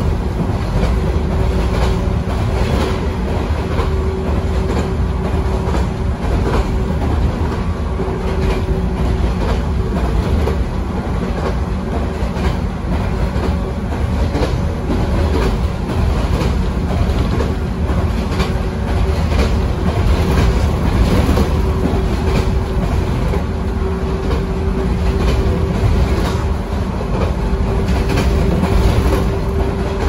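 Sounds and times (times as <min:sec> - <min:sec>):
train wheels rumbling: 0:00.0 - 0:30.0
wheels clicking over rail joints: 0:00.0 - 0:30.0.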